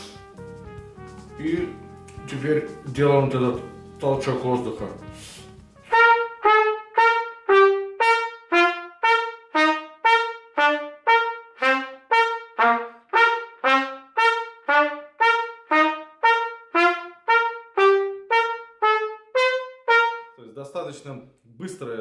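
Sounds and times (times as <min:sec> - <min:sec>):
trumpet playing short notes: 0:00.0 - 0:20.4.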